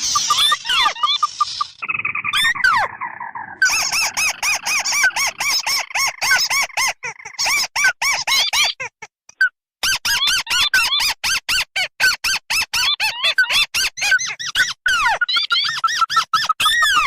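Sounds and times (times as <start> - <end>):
recorded crake calls: 0.0 - 17.0.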